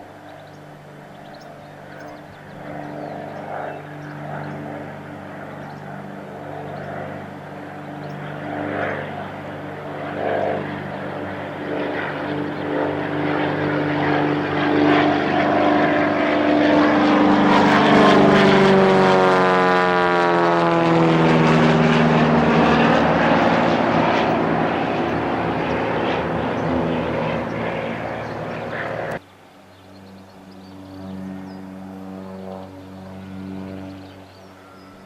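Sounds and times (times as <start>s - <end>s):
propeller plane flying past: 0.0s - 35.0s.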